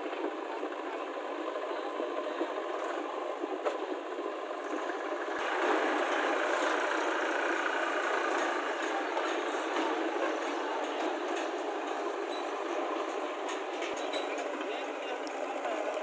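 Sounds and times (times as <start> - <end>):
other tractor engines: 0.0 - 16.0
tractor diesel engine: 0.0 - 16.0.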